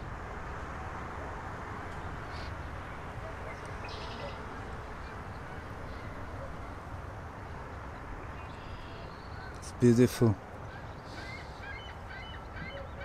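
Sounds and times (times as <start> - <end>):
low outdoor background noise: 0.0 - 13.0
faint bird calls: 2.0 - 13.0.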